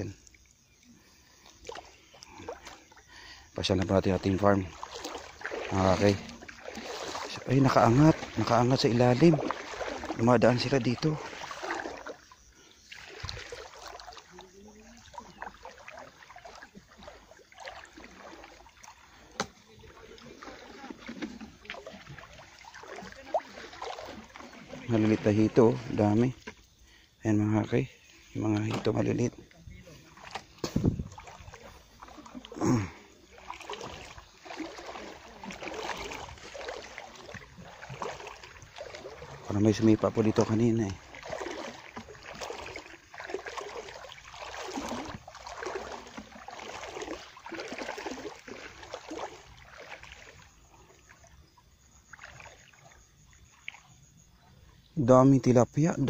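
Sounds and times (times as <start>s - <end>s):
shallow water trickling: 0.0s - 55.2s
splashes of wading: 0.0s - 56.0s.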